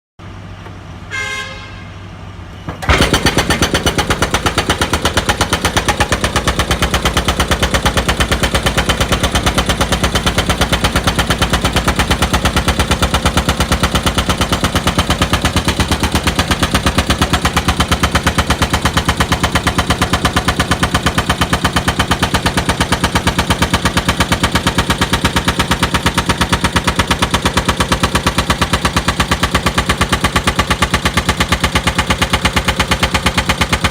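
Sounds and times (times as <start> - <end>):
excavator rapid pounding: 2.7 - 33.9.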